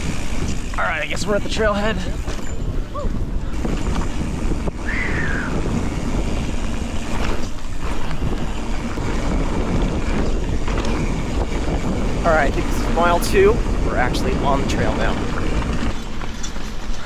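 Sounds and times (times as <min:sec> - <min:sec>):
bike tyres rumbling on dirt: 0:00.0 - 0:17.0
wind buffeting microphone: 0:00.0 - 0:17.0.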